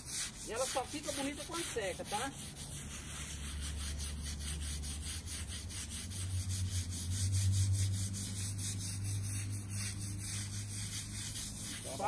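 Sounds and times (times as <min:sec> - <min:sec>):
brush scrubbing wet stone paving: 0:00.0 - 0:12.0.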